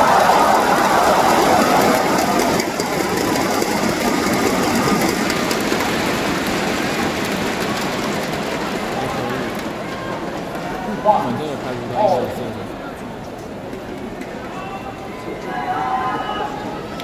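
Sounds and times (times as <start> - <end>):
crowd cheering and chatter: 0.0 - 17.0.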